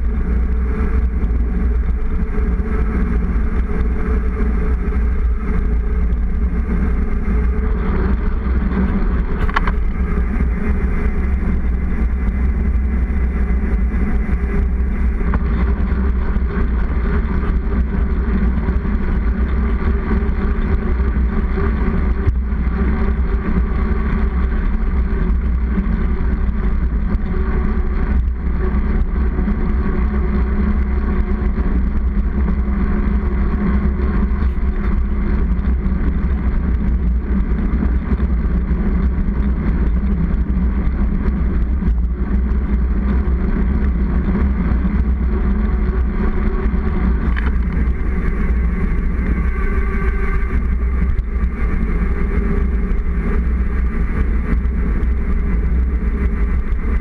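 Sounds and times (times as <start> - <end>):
bike tyre humming on asphalt: 0.0 - 57.0
wind rushing on microphone: 0.0 - 57.0.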